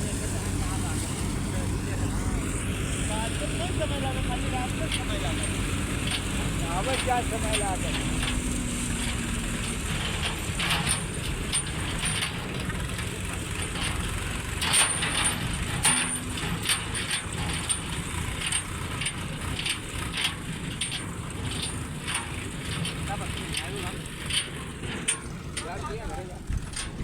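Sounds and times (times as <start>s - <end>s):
farm machinery engine rumble: 0.0s - 27.0s
metallic clicks and rattles: 3.5s - 27.0s.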